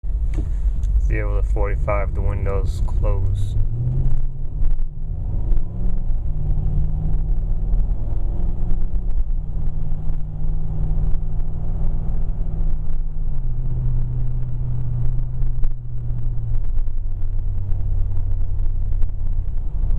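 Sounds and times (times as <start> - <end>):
car engine drone accelerating: 0.0 - 19.9.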